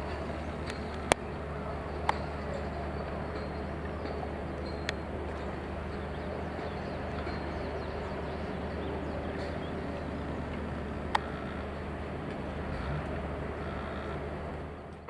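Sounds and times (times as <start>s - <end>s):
diesel train engine hum: 0.0s - 15.0s.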